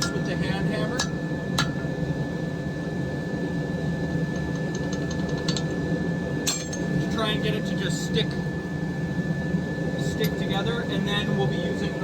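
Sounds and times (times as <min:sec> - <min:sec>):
forge roaring with high whine: 0:00.0 - 0:12.0.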